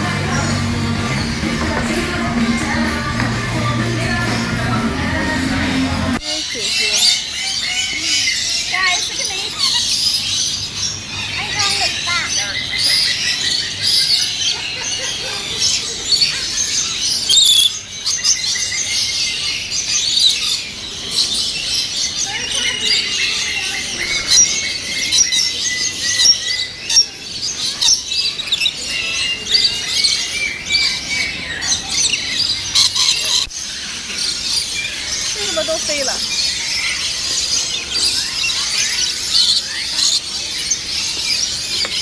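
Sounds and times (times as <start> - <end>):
parrots screeching and chirping: 6.2 - 42.0.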